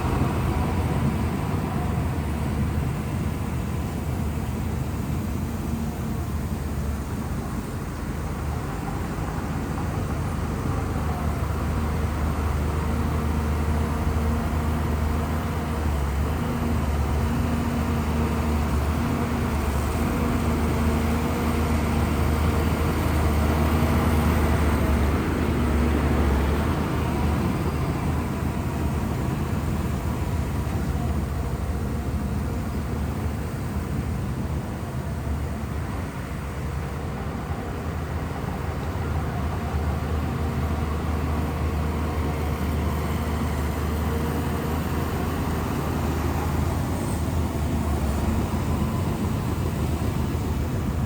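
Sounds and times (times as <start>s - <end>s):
bulldozer diesel engine drone: 0.0s - 51.0s.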